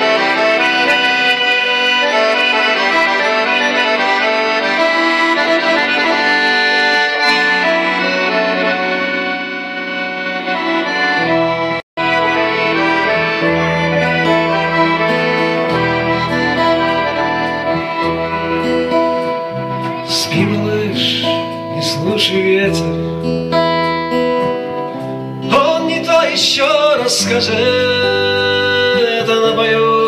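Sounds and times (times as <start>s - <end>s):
accordion playing chords: 0.0s - 30.0s.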